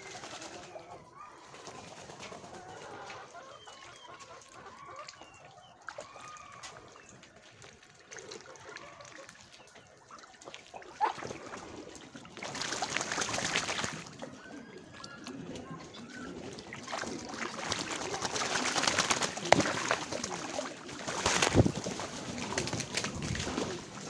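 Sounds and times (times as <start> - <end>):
ducks splashing in water: 0.0 - 24.0
wings beating in water: 0.0 - 24.0.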